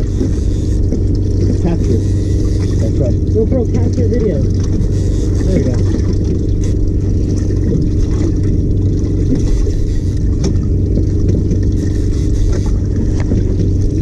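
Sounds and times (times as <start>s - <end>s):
outboard engine idling: 0.0s - 14.0s.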